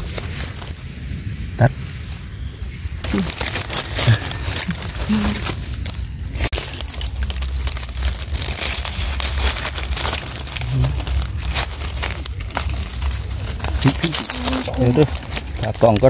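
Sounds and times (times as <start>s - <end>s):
dry leaves crackling and rustling: 0.0s - 16.0s
low rumble: 0.0s - 16.0s.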